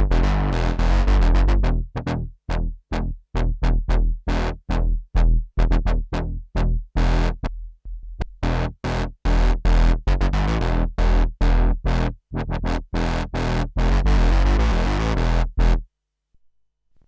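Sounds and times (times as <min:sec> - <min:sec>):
synthesizer bass notes: 0:00.0 - 0:15.8.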